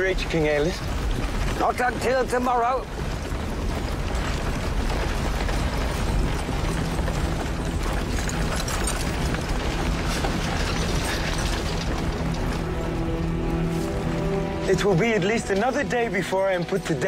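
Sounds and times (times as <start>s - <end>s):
wooden cart rumbling and rattling: 0.0s - 17.0s.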